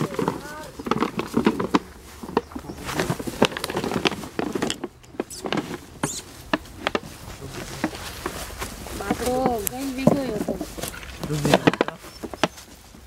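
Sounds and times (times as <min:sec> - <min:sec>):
dry leaves crackling underfoot: 0:00.0 - 0:13.0.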